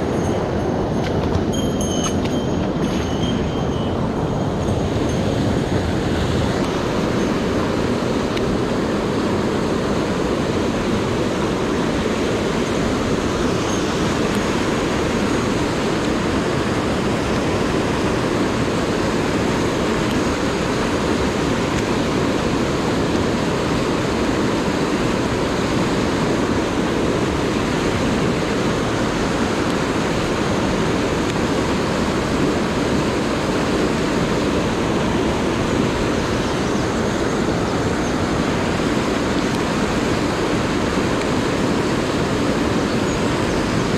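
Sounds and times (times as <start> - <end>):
whitewater stream over boulders: 0.0 - 43.9.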